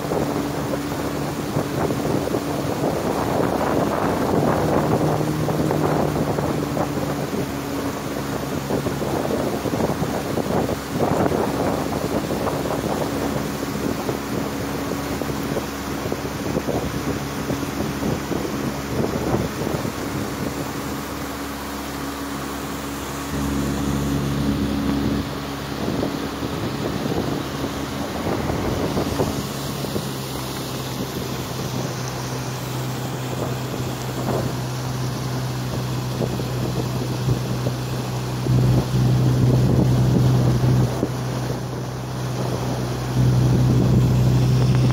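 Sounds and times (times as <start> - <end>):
boat motor running: 0.0 - 44.9
wind and water rushing: 0.0 - 44.9.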